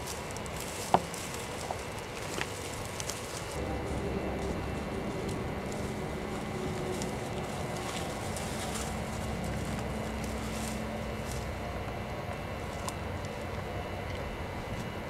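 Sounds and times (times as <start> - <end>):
stems snapping: 0.0 - 12.0, 12.6 - 14.9
footsteps through dry weeds: 0.0 - 15.0
background rumble: 1.2 - 14.8.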